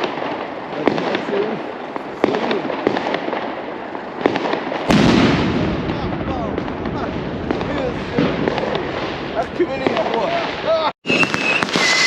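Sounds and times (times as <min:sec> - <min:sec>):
loud blast with heavy rumble: 0:00.0 - 0:10.8
firecrackers banging: 0:00.0 - 0:12.0.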